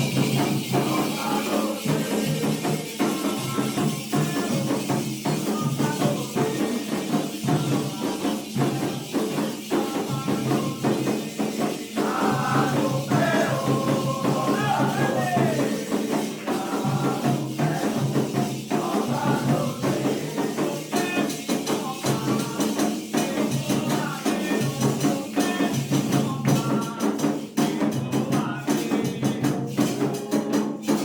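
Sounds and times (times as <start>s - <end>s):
hand percussion beat: 0.0s - 31.0s
shakers or rattles: 0.0s - 31.0s
voices singing: 0.0s - 31.0s.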